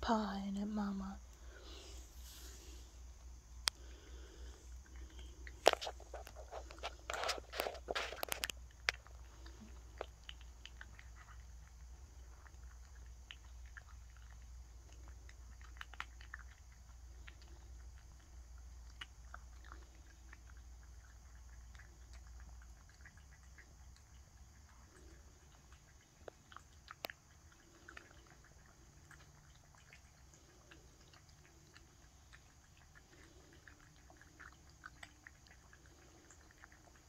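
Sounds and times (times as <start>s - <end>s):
cat crunching dry kibble: 1.2s - 37.0s.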